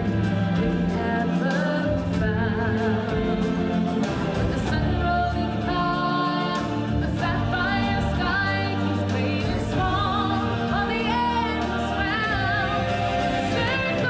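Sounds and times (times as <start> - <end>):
choir singing: 0.0 - 14.0
instrumental backing: 0.0 - 14.0.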